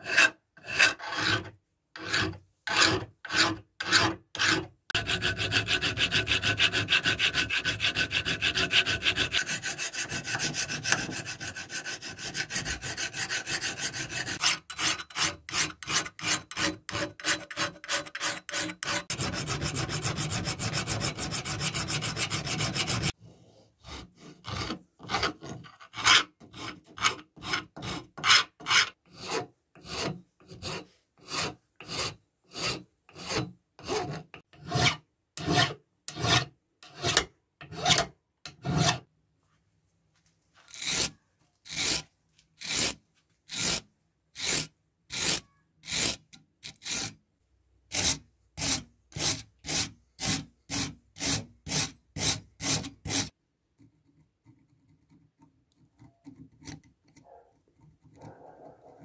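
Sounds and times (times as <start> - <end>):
metal file rasping on antler: 0.0 - 23.2, 23.8 - 39.0, 40.7 - 41.1, 41.7 - 42.0, 42.6 - 43.8, 44.4 - 47.2, 47.9 - 53.3.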